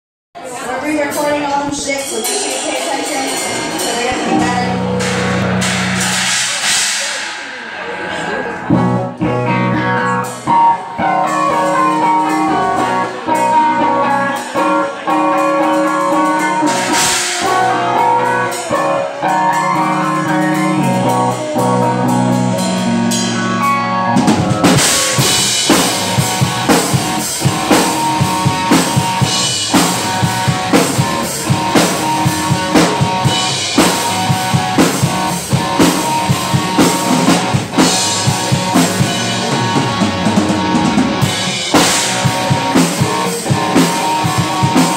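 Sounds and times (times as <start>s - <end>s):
drum kit beat with cymbals: 0.9s - 44.9s
electric guitar: 2.3s - 44.9s
bass guitar: 3.2s - 44.9s.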